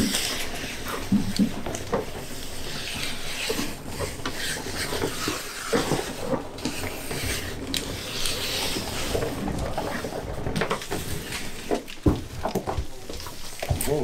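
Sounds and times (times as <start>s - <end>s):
plastic sheeting crinkling: 0.0s - 14.0s.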